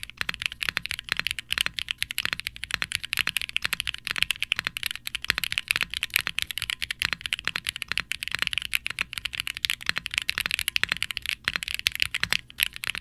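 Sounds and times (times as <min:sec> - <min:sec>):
fast mechanical keyboard typing: 0:00.0 - 0:13.0.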